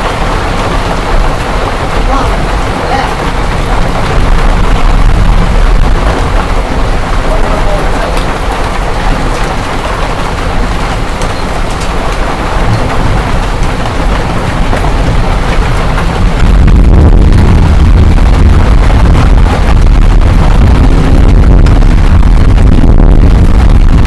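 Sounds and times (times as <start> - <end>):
deep rumble: 0.0 - 24.0
hailstones ticking: 0.0 - 24.0
heavy rain hissing: 0.0 - 24.0.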